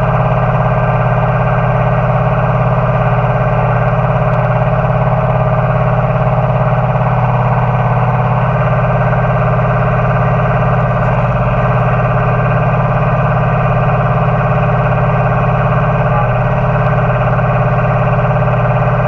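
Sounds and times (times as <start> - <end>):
model tractor buzzing drone: 0.0 - 19.0.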